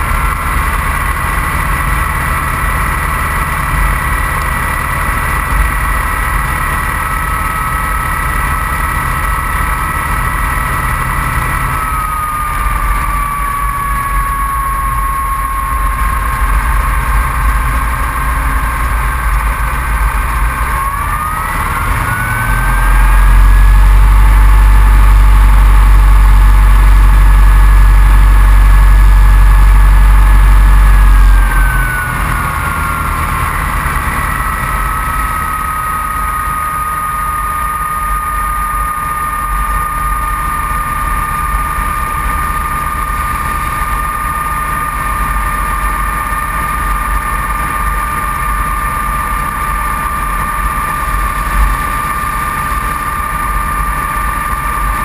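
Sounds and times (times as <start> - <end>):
biplane engine and propeller: 0.0 - 55.0
deep rumble of propeller blast: 0.0 - 55.0
high engine whine: 0.0 - 55.0.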